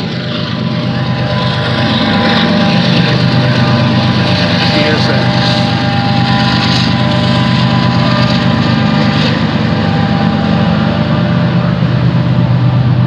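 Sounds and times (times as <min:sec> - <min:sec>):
diesel locomotives droning: 0:00.0 - 0:13.0.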